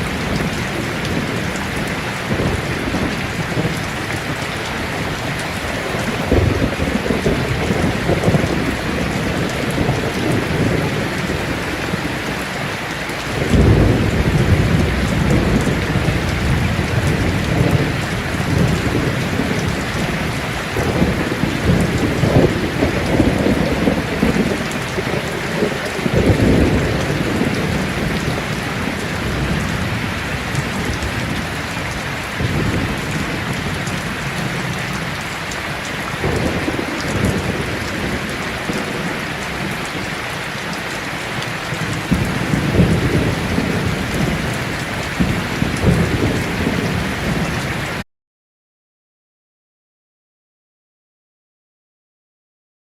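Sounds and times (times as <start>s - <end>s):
heavy rain on a tin roof: 0.0s - 48.0s
thunder rumbling: 0.0s - 48.0s.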